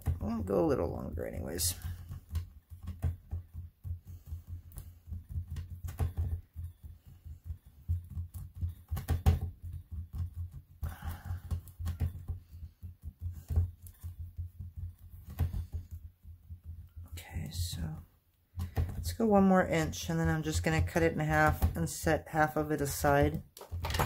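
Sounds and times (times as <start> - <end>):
clay pressed on plastic mat: 0.0 - 24.0.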